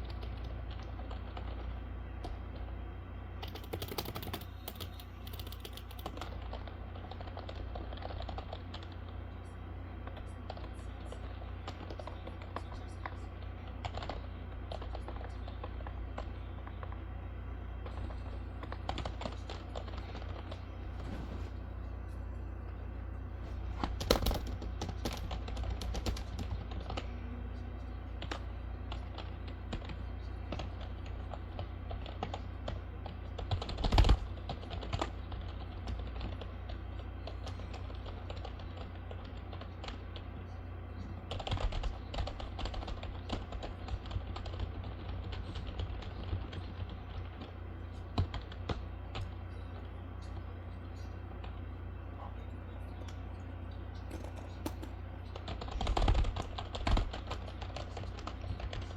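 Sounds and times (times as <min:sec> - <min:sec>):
typing on computer keyboard: 0:00.0 - 0:02.7, 0:03.4 - 0:09.2, 0:10.0 - 0:17.0, 0:17.8 - 0:21.1, 0:23.7 - 0:27.2, 0:28.1 - 0:40.3, 0:41.0 - 0:50.4, 0:54.0 - 0:58.9
steady low hum: 0:00.0 - 0:58.9.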